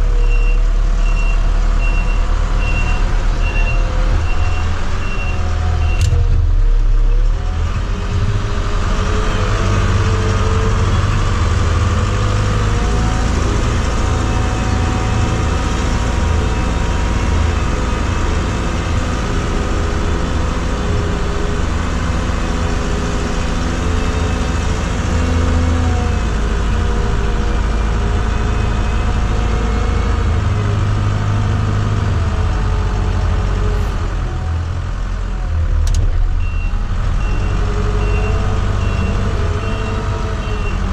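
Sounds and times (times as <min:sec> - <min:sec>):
diesel engine working under load: 0:00.0 - 0:40.9.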